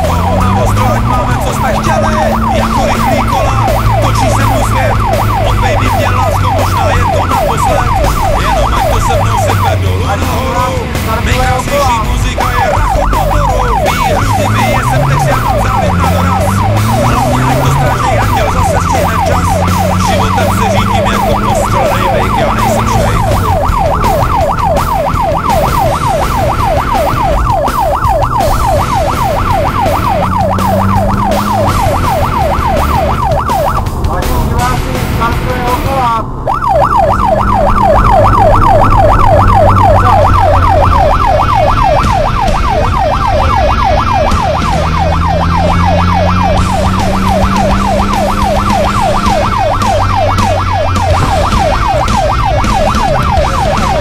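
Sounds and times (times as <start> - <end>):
electronic music with siren synth: 0.0 - 54.0.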